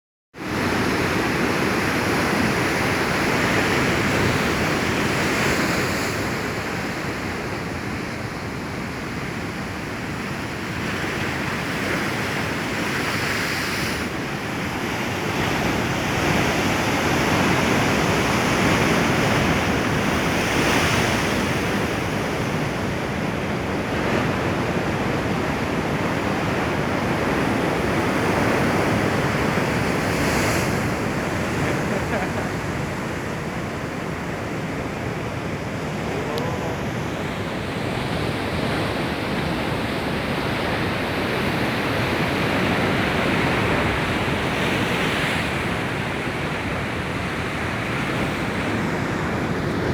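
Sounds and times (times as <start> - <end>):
ocean waves breaking: 0.4 - 49.9.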